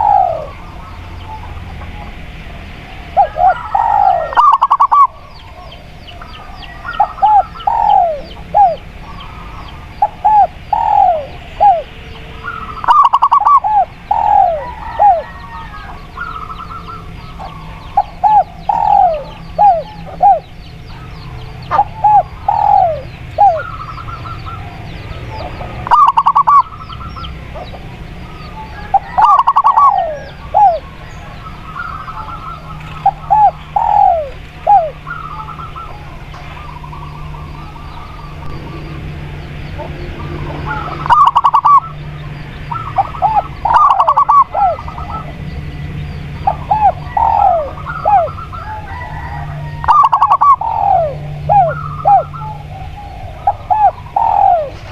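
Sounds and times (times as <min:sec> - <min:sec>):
doves cooing: 0:00.0 - 0:54.9
small birds chirping: 0:00.0 - 0:54.9.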